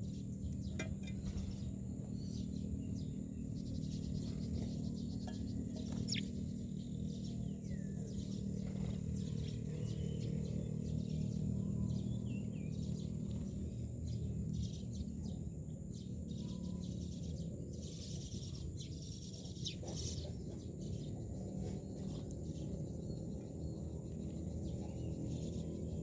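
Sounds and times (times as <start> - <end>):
low background rumble: 0.0 - 26.0
myna birds chirping: 0.0 - 26.0.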